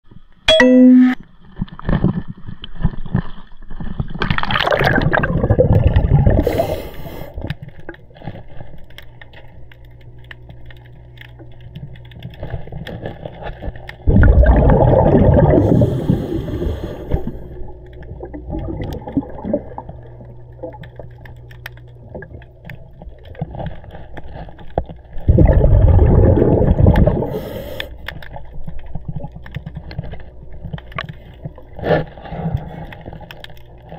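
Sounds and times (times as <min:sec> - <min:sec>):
low steady hum: 0:00.1 - 0:33.9
underwater bubbles gurgling: 0:01.5 - 0:33.9.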